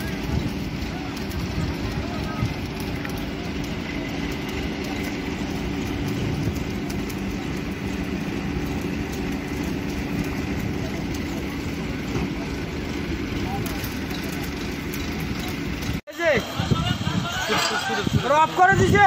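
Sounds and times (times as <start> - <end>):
heavy engine running: 0.0 - 19.0.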